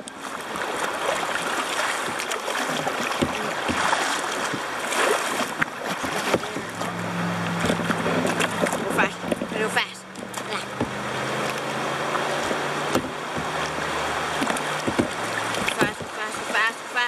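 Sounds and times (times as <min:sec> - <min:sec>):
river water rushing past a kayak: 0:00.0 - 0:17.0.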